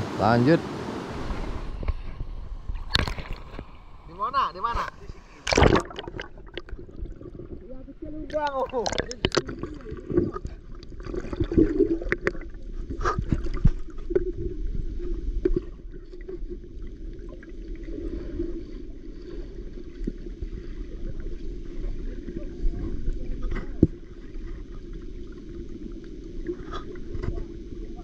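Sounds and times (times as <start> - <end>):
muffled river water: 0.0 - 28.0.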